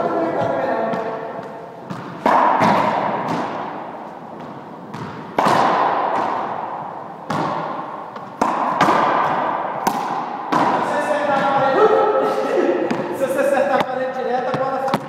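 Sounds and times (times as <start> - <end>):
squash ball smacking court walls: 0.0 - 15.0.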